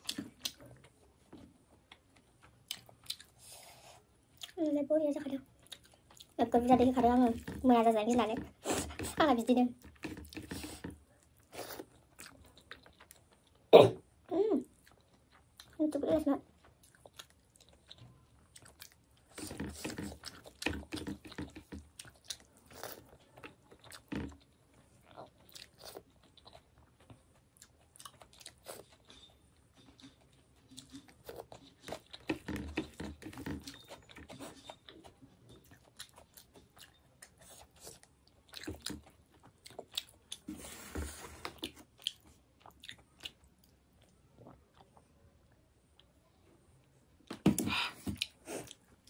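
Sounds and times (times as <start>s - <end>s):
person chewing food: 0.0s - 4.6s, 5.5s - 9.2s, 9.8s - 13.7s, 14.6s - 15.8s, 16.4s - 45.1s, 47.2s - 49.0s.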